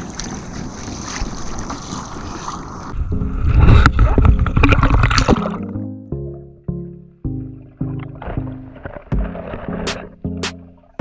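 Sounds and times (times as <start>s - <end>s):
wind and water noise: 0.0s - 5.8s, 7.6s - 11.0s.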